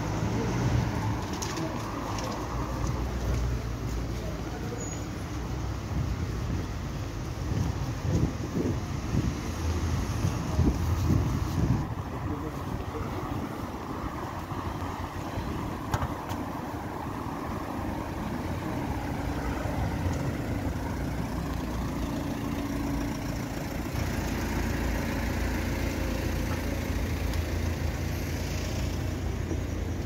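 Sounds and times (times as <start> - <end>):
car engines passing close by: 0.0 - 30.0.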